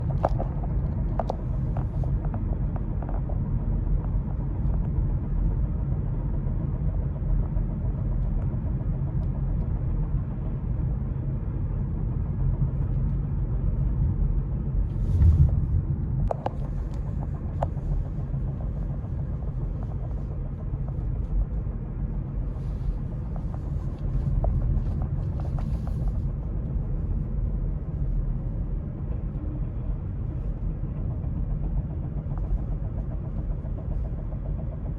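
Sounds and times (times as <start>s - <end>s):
car low rumble: 0.0s - 34.9s.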